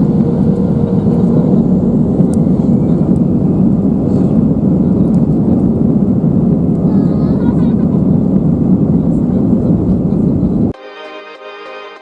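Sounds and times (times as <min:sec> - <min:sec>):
jet engines and airframe noise: 0:00.0 - 0:10.8.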